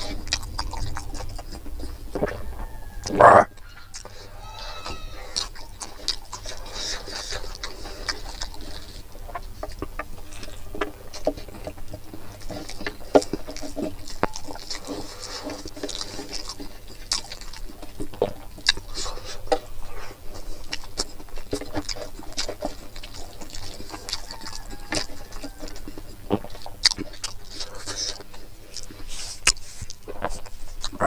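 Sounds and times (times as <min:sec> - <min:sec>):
fingers squishing food: 0:00.0 - 0:31.0
wet chewing and lip-smacking: 0:00.0 - 0:31.0.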